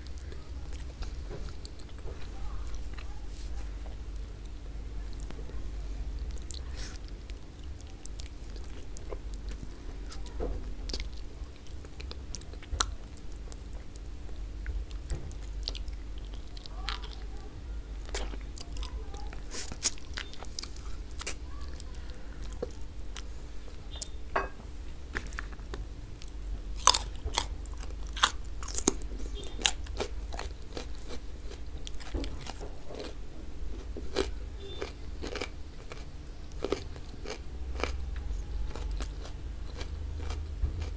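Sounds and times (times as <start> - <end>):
crunchy chewing: 0.0 - 24.3, 25.1 - 40.9.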